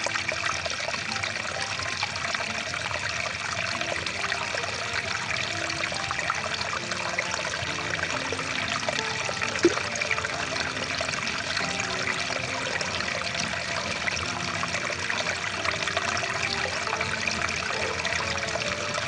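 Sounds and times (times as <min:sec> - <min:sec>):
stream water rushing and gurgling: 0:00.0 - 0:19.0
water plop: 0:00.0 - 0:19.0.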